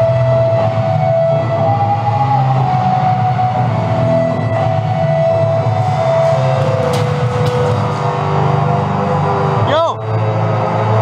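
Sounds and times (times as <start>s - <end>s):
music with long held notes: 0.0s - 11.0s.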